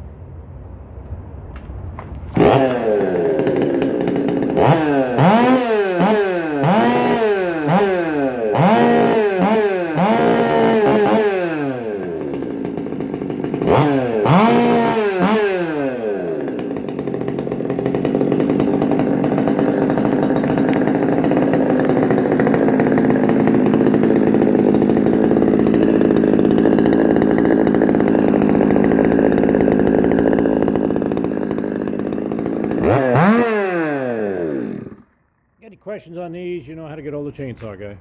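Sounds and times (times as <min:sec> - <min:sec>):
chainsaw running: 0:02.0 - 0:35.6.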